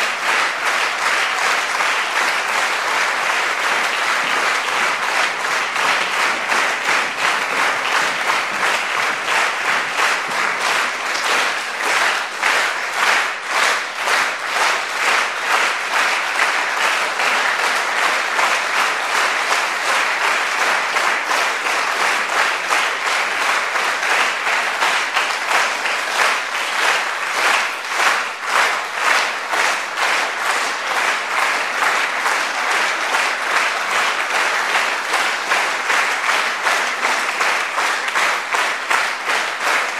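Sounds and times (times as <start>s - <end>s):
audience applauding: 0.0s - 39.9s.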